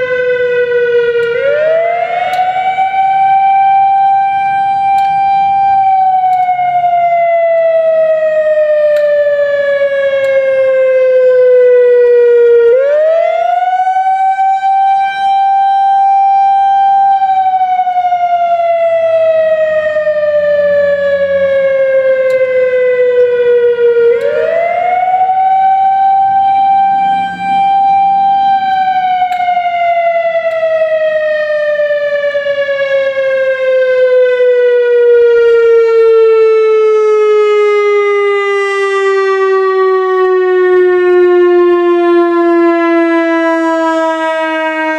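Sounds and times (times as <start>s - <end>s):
warning siren wailing: 0.0s - 44.9s.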